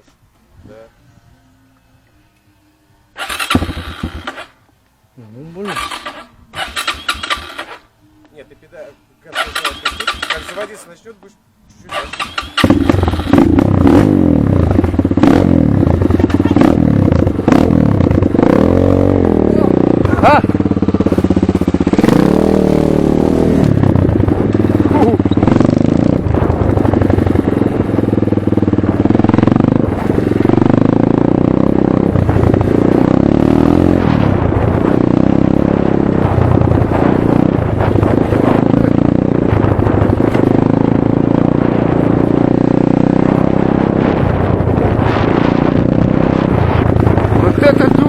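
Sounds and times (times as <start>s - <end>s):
motorcycle engine revving: 3.1s - 4.7s, 5.3s - 7.9s, 9.3s - 11.0s, 11.7s - 48.0s.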